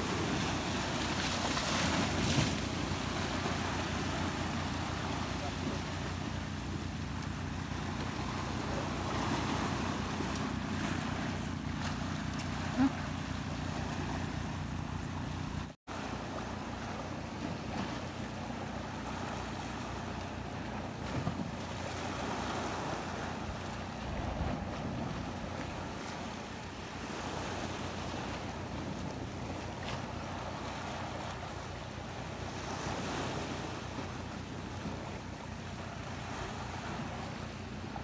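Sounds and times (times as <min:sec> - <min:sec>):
sea waves on rocky shore: 0:00.0 - 0:38.0.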